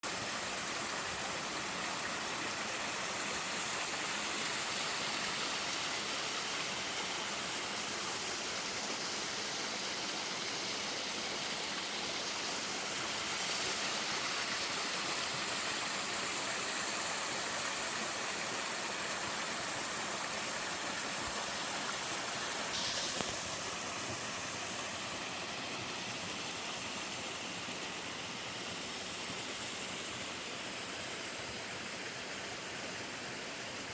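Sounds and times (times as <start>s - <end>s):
waterfalls pouring and splashing: 0.0s - 33.9s.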